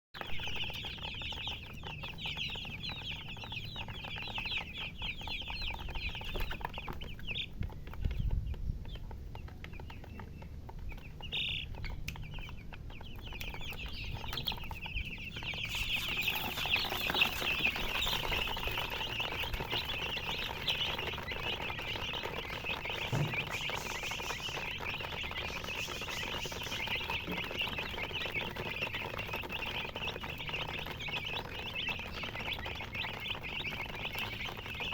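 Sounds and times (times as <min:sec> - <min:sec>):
baby chicks peeping: 0:00.1 - 0:34.9.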